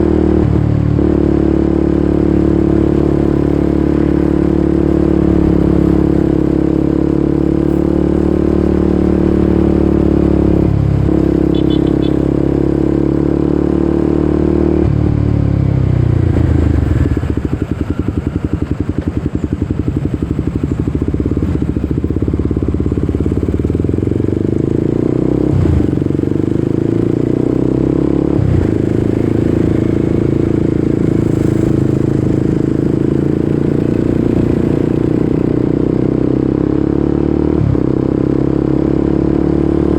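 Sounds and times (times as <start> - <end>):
motorcycle engine being ridden: 0.0 - 39.9.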